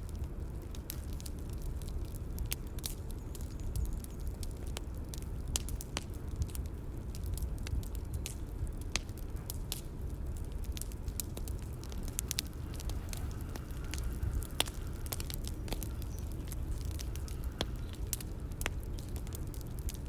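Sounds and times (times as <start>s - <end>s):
fire popping and snapping: 0.0s - 20.0s
low rumble of burning: 0.0s - 20.0s.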